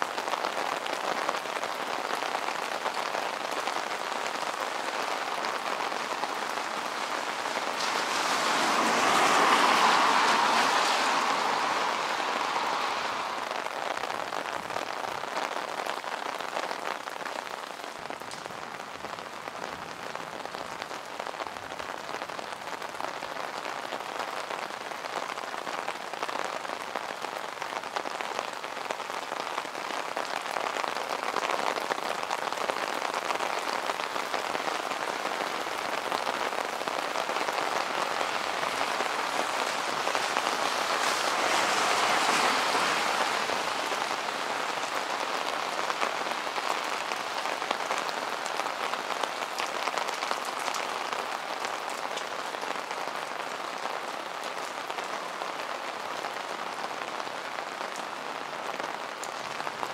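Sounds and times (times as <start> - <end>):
rain on wet streets: 0.0 - 59.9.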